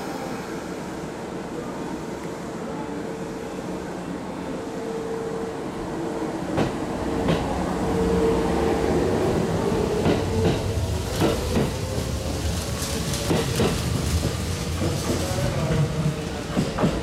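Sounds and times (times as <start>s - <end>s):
train hum: 0.0s - 17.0s.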